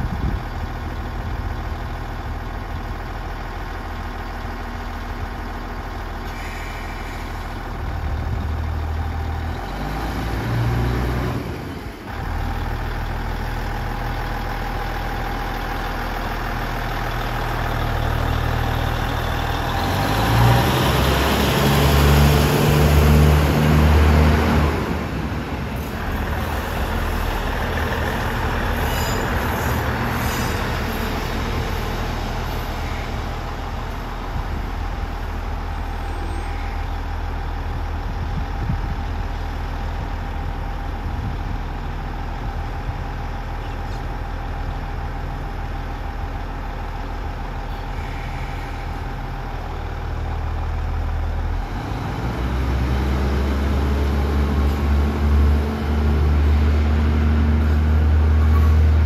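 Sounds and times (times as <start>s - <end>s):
diesel railcar engine running: 0.0s - 59.0s.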